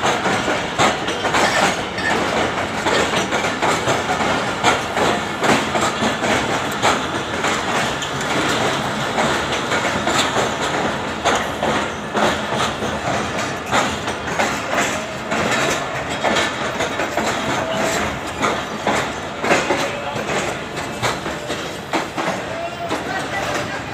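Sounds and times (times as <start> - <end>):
train wheels clattering over rail joints: 0.0 - 23.9.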